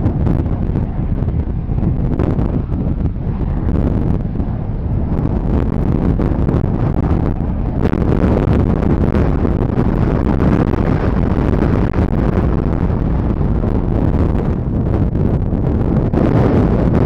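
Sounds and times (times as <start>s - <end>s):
jet engines running: 0.0s - 17.0s
wind rumbling on microphone: 0.0s - 17.0s.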